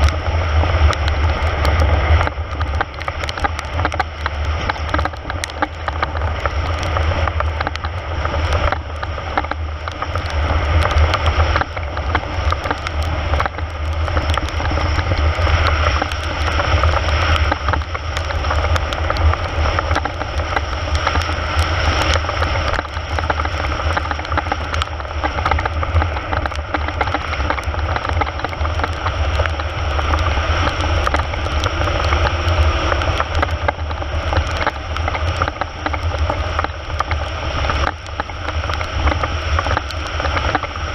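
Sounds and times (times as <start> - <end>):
wind buffeting microphone: 0.0 - 40.9
faint clicks: 0.8 - 40.9.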